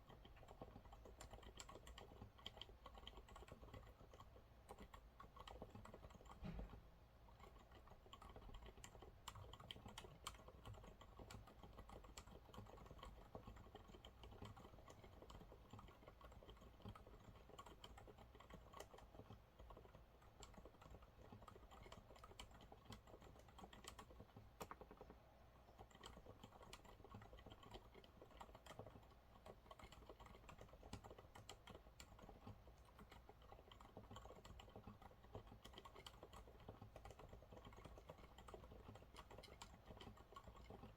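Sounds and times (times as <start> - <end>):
quiet keyboard typing: 0.0 - 40.9.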